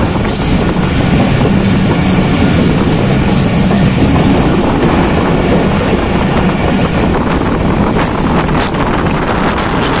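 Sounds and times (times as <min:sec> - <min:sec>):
train wheels rumbling on rail: 0:00.0 - 0:10.0
wind rushing over microphone: 0:00.0 - 0:10.0.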